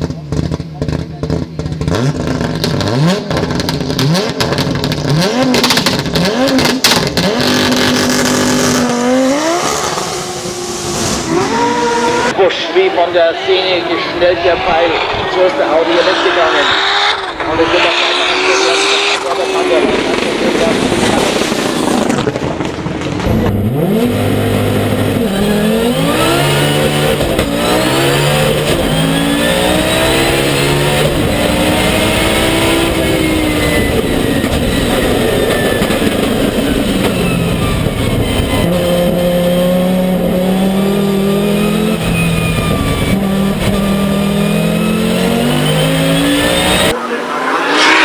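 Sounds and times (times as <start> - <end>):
turbocharged car engine at full throttle: 0.0 - 12.8, 13.9 - 48.0.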